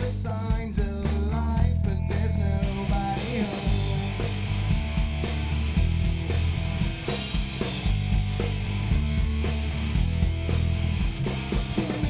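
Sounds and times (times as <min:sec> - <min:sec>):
drum kit beat: 0:00.0 - 0:12.0
live rock band playing: 0:02.1 - 0:12.0.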